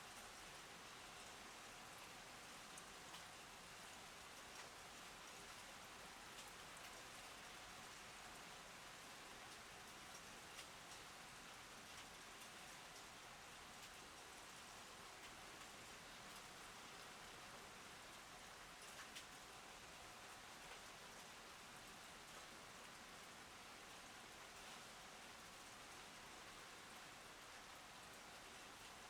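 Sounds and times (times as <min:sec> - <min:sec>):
faint rain falling: 0:00.0 - 0:29.0.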